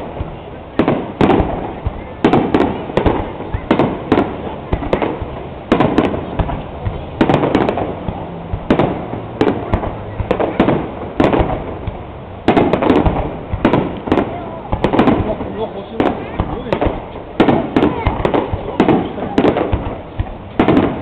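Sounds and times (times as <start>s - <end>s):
fireworks bangs with rumbling echo: 0.0s - 21.0s.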